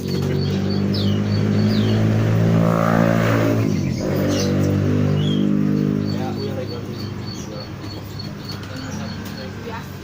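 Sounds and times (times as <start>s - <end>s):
engine humming: 0.0s - 10.0s
small birds chirping: 0.0s - 10.0s.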